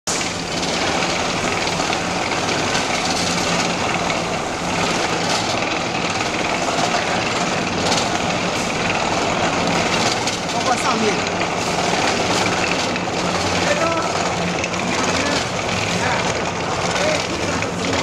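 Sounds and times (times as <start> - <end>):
machine running with low hum: 0.1 - 18.0.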